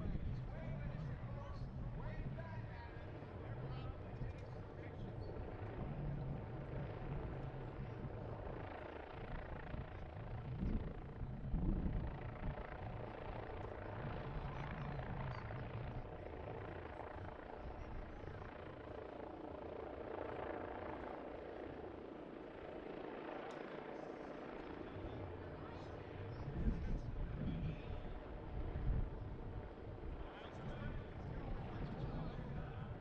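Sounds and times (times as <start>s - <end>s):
aircraft engine in flight: 0.0s - 33.0s.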